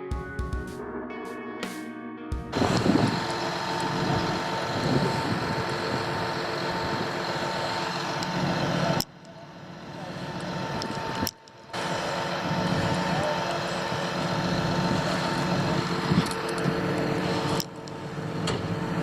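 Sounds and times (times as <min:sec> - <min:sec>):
heavy vehicle engine running: 0:02.5 - 0:19.0.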